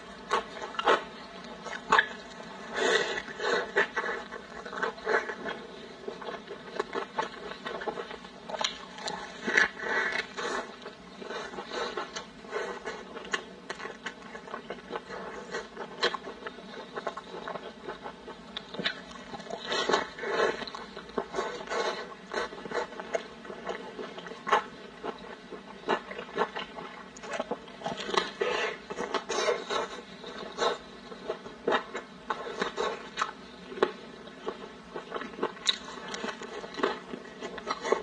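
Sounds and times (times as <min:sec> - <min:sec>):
close chewing: 0:00.1 - 0:38.0.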